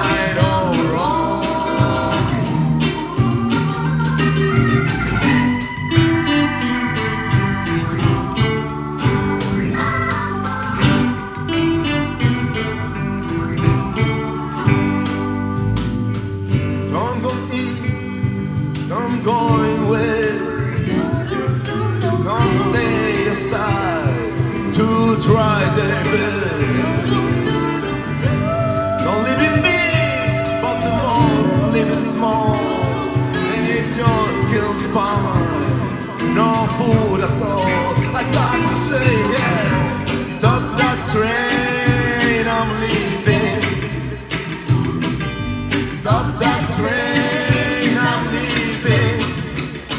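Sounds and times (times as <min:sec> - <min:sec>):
live band playing instrumental: 0:00.0 - 0:49.9
sliding bending lead guitar line: 0:00.0 - 0:49.9.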